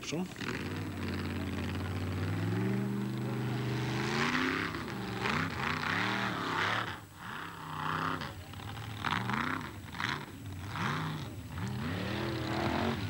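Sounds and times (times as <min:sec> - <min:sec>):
offroad car engine revving: 0:00.0 - 0:13.0.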